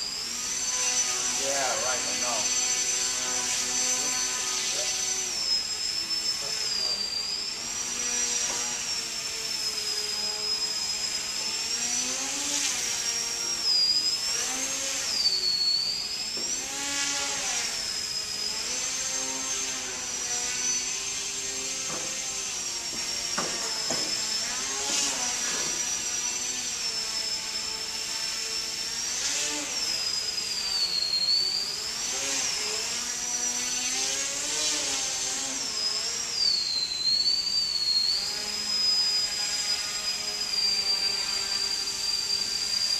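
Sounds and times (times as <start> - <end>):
electric motor and propeller whining: 0.0 - 42.9.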